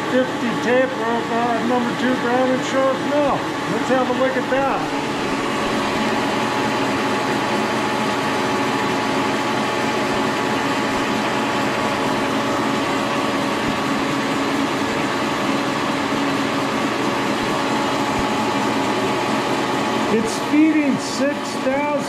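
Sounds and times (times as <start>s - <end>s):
milling machine humming: 0.0s - 22.0s.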